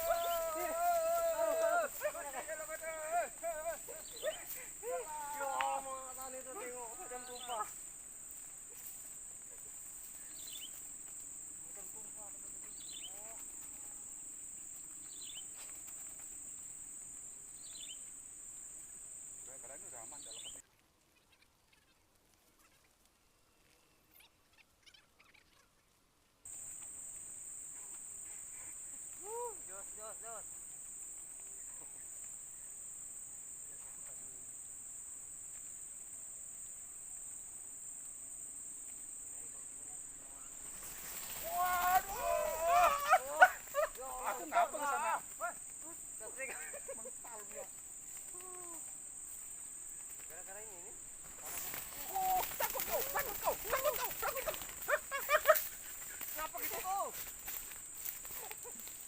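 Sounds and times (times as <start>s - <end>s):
insects droning: 0.0s - 21.8s, 26.5s - 59.0s
faint rural background: 0.0s - 59.0s.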